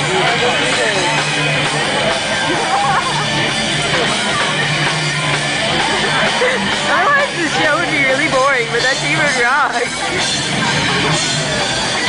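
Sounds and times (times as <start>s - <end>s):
crowd chatter: 0.0s - 12.0s
rock music with guitar and drums: 0.0s - 12.0s.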